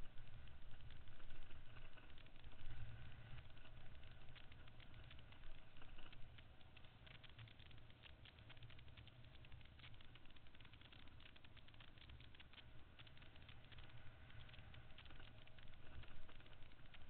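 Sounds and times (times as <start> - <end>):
rattle of small clicks: 0.0 - 17.0.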